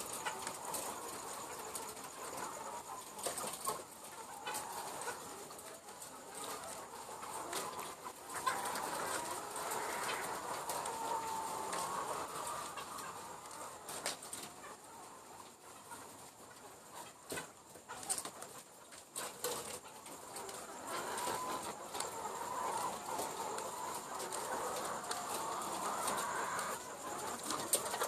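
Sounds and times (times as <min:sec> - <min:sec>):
hens clucking and calling: 0:00.0 - 0:28.0.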